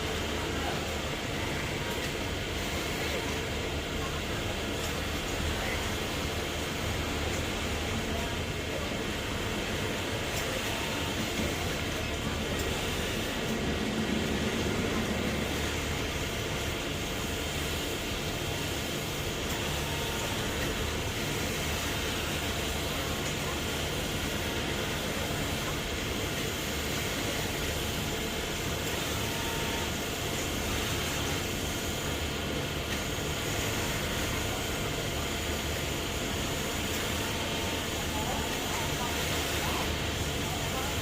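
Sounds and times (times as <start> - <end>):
laser cutting machine humming: 0.0 - 41.0.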